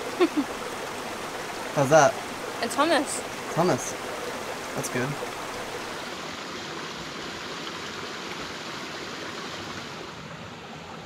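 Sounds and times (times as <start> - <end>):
water rushing and trickling: 0.0 - 11.0.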